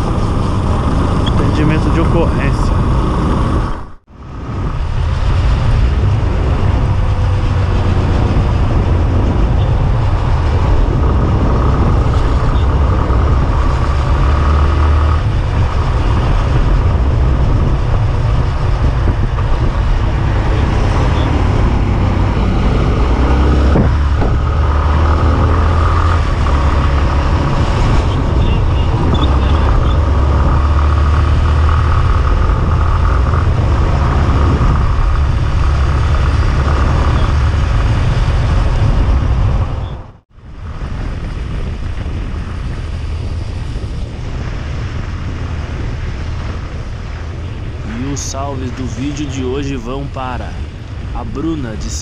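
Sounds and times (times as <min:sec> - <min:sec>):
motorcycle engine running: 0:00.0 - 0:43.8
wind rush on microphone: 0:00.0 - 0:52.0.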